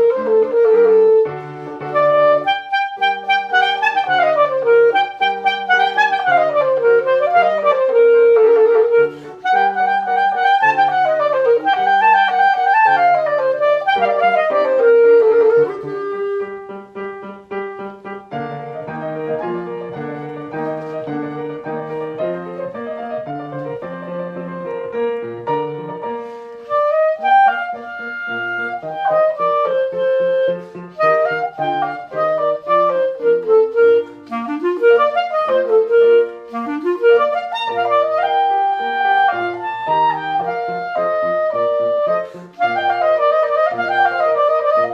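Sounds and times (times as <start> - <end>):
clarinet melody: 0.0 - 44.9
piano accompaniment: 0.0 - 44.9.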